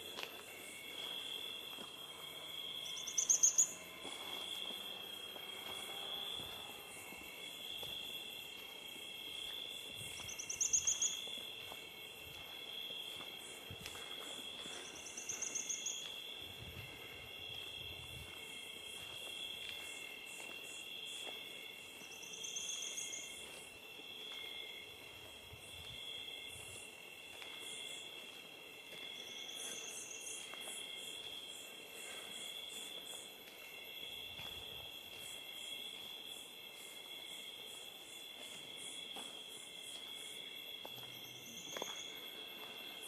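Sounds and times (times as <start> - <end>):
insects chorus pulsing: 0.0 - 43.0
rapid high insect trill: 0.0 - 43.0.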